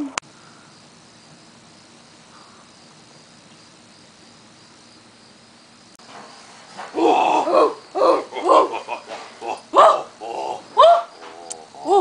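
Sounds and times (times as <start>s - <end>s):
faint cricket chirping: 0.0s - 12.0s
outdoor background hiss: 0.0s - 12.0s.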